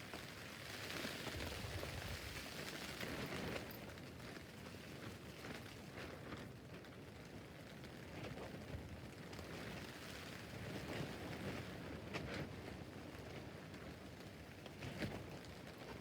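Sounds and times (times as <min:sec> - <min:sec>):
rain pattering on tent: 0:00.0 - 0:16.0.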